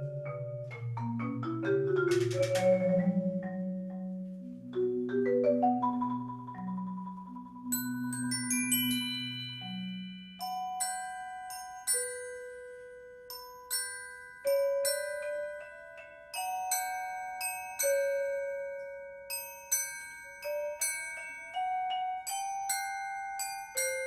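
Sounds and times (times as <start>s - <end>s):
mallet percussion bell-like notes: 0.0s - 24.0s.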